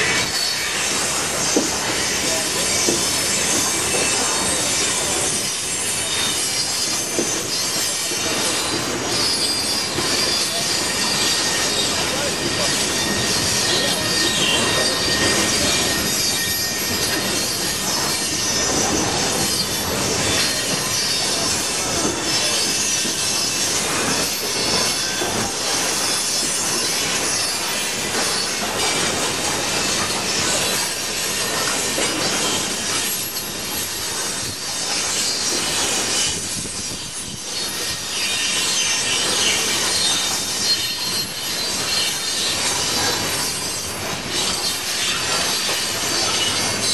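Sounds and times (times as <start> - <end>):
steel wheels squealing on rails: 0.0 - 46.9.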